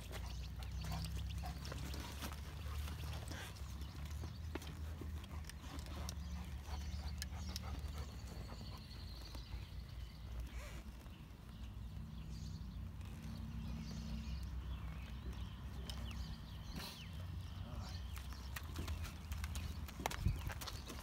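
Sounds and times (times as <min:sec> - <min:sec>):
horse hooves shifting on dirt: 0:00.0 - 0:21.0.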